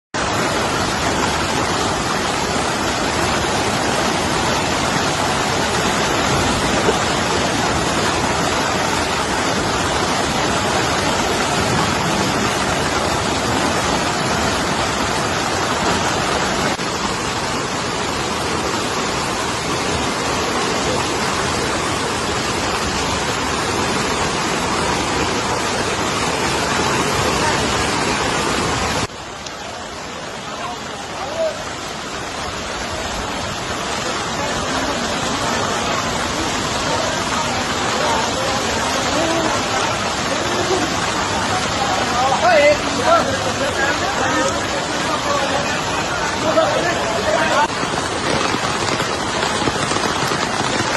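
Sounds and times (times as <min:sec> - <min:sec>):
river rushing in spate: 0:00.2 - 0:50.9.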